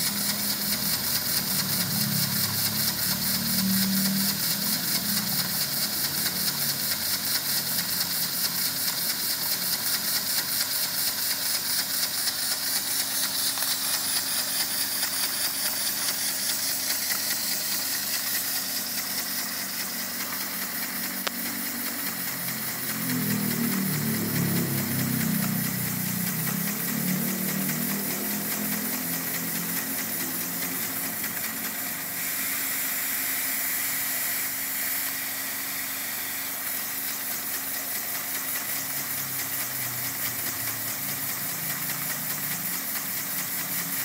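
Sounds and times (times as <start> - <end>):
air-driven piston engine puffing: 0.0 - 44.0.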